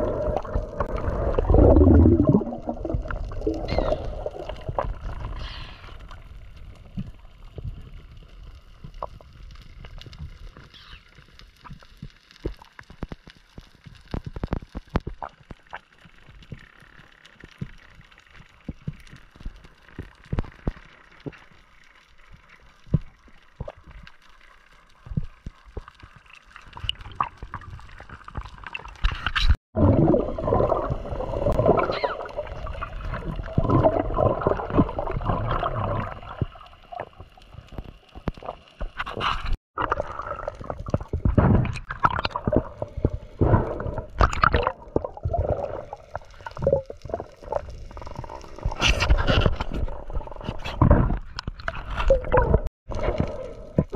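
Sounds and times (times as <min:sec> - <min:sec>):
water gurgling and sloshing: 0:00.0 - 0:53.9.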